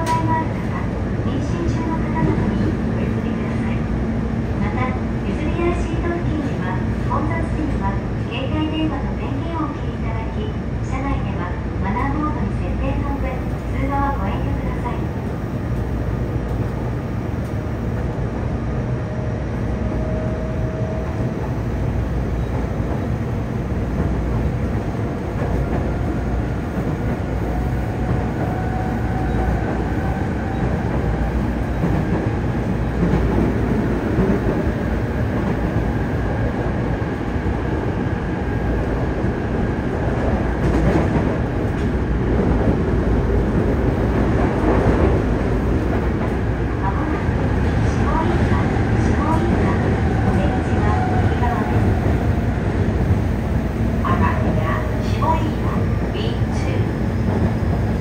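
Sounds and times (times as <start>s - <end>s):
subway wheels and motors rumbling: 0.0s - 58.0s.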